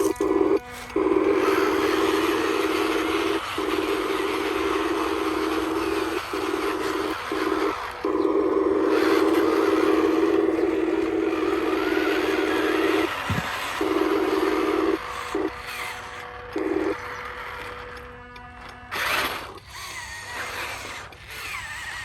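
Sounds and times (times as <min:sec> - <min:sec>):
small electric motor whirring: 0:00.0 - 0:22.0.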